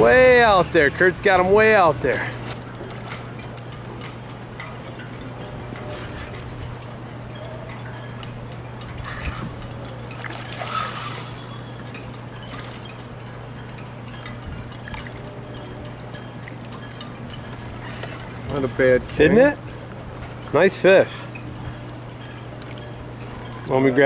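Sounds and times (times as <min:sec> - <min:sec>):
fish splashing and thrashing: 0:00.0 - 0:24.0
steady low hum: 0:00.0 - 0:24.0.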